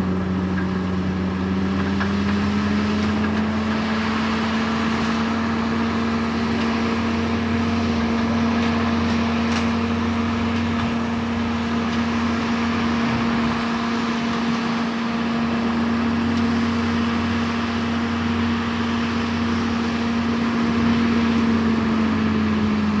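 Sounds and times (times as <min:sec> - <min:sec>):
mulcher machine running: 0:00.0 - 0:23.0.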